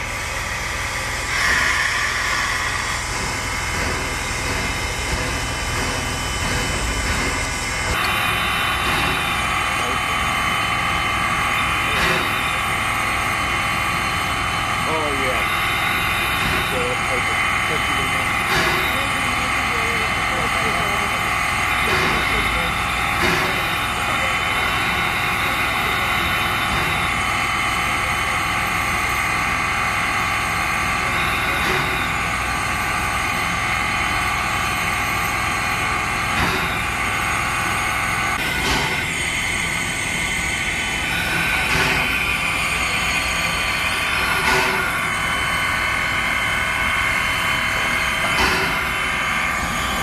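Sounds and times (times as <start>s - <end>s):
loud steam surges: 0.0s - 50.0s
steam locomotive hissing: 0.0s - 50.0s.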